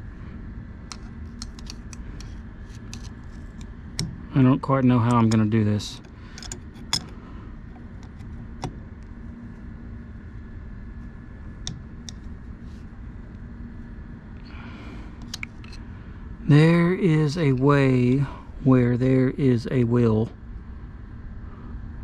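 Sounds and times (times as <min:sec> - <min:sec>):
faint constant tone: 0:00.0 - 0:22.0
low background hum: 0:00.0 - 0:22.0.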